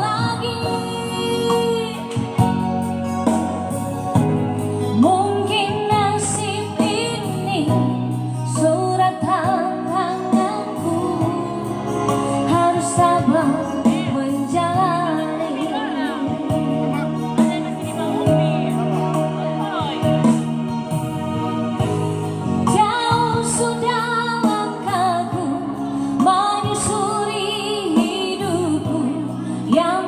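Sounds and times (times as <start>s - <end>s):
woman singing: 0.0s - 3.0s, 4.8s - 20.8s, 21.8s - 30.0s
instrumental backing music: 0.0s - 30.0s.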